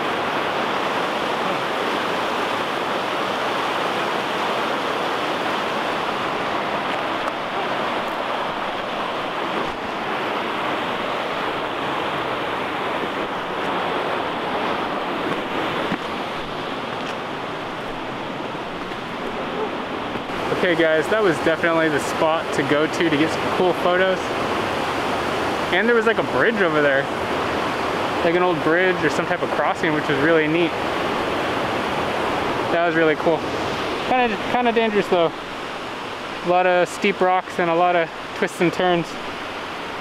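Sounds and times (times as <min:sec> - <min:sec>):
whitewater rushing over rocks: 0:00.0 - 0:40.0.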